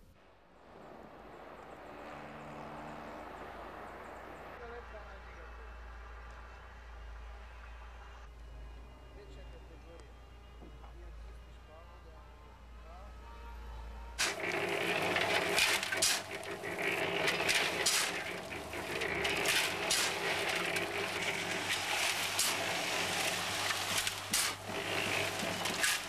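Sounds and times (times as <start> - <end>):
building site din: 0.0 - 26.0
low hum: 0.0 - 26.0.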